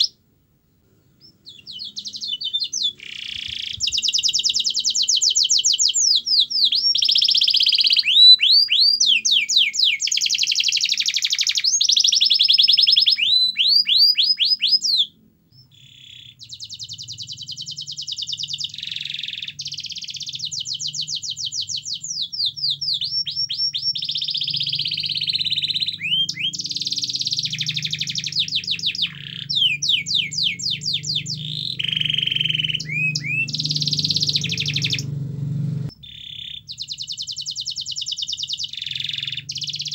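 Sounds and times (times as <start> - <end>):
canary singing: 0.0 - 0.2, 1.0 - 39.9.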